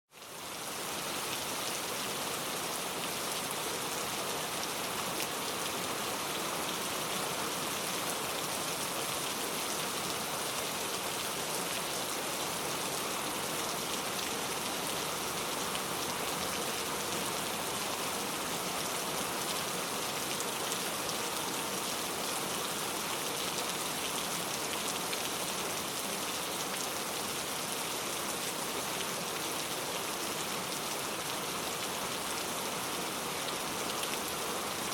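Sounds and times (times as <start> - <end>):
heavy rain on leaf-covered road: 0.1 - 34.9.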